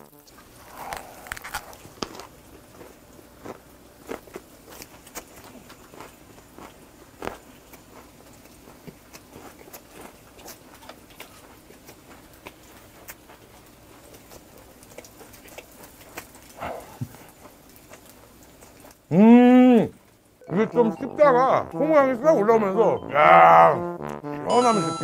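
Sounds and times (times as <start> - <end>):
soft wet chewing: 0.1 - 20.5.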